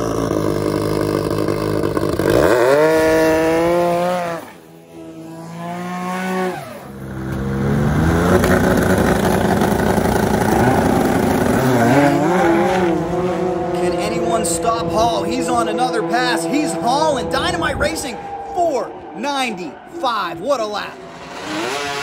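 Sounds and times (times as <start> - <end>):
snowmobile engines racing: 0.0 - 22.0.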